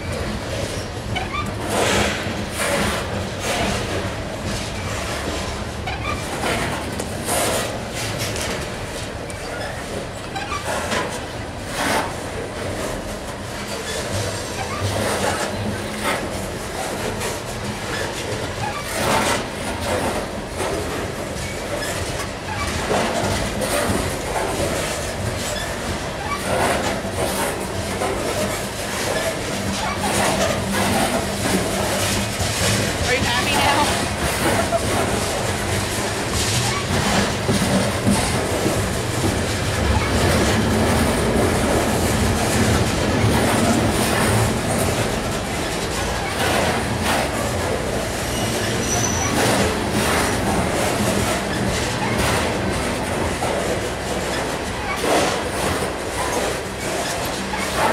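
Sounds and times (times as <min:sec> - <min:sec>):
freight train rolling past: 0:00.0 - 0:57.9
steel wheels clattering over rail: 0:00.0 - 0:57.9.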